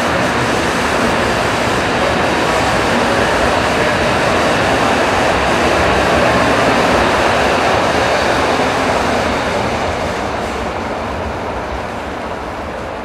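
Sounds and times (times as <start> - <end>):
bullet train passing: 0.0 - 13.0.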